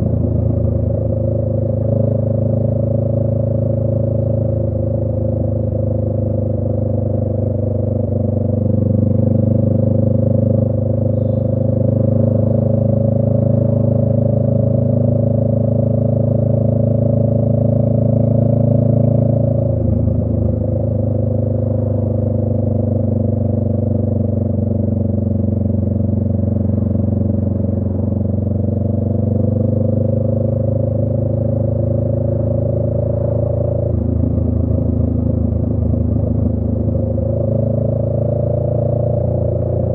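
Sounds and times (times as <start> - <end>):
motorcycle exhaust note while riding: 0.0 - 39.9.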